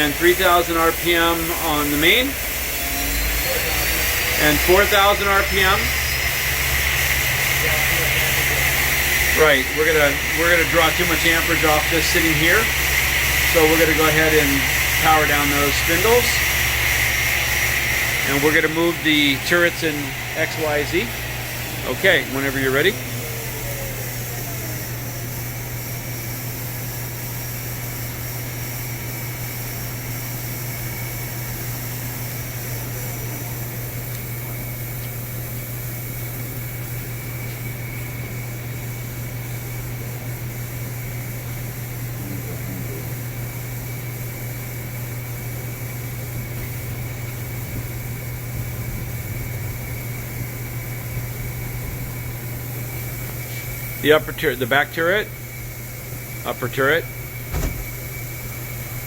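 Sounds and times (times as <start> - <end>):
machine hum and fan noise: 0.0 - 59.0
thin high whine: 0.0 - 59.0.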